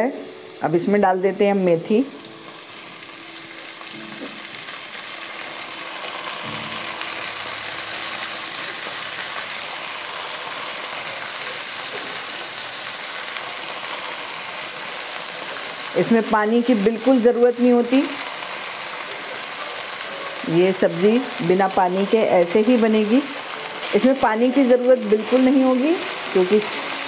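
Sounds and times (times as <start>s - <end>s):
potatoes sizzling in hot oil: 0.0s - 27.0s.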